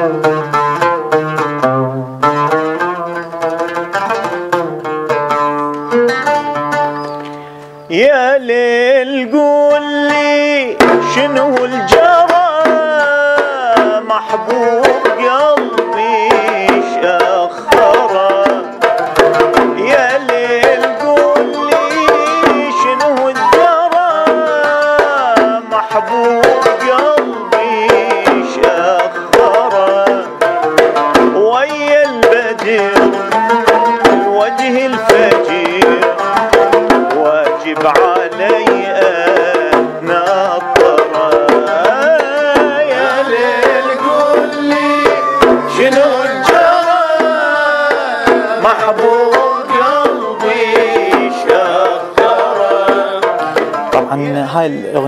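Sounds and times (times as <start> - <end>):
hand drums beating: 0.0 - 55.0
oud playing: 0.0 - 55.0
person singing: 7.8 - 55.0.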